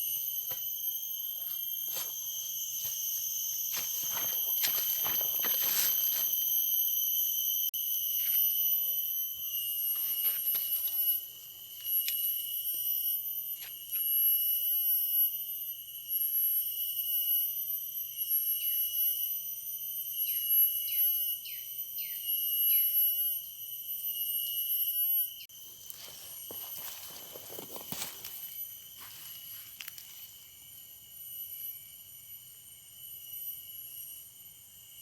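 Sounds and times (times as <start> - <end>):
high ringing tone: 0.0 - 30.6.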